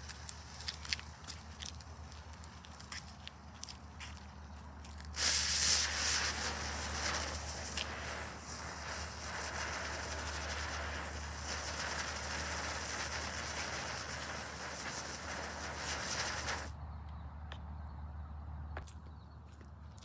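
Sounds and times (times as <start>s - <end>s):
fireworks hissing and crackling: 0.0s - 16.8s.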